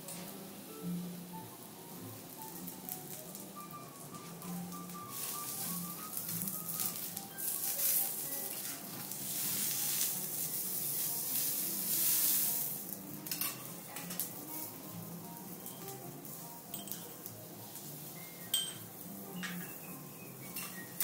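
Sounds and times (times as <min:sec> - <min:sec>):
food sizzling on griddle: 0:00.0 - 0:21.0
soft background music: 0:00.0 - 0:21.0.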